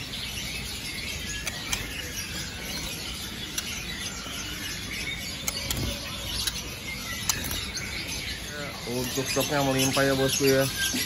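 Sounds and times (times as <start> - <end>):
bird market background noise: 0.0 - 11.0
songbirds chirping: 0.0 - 11.0.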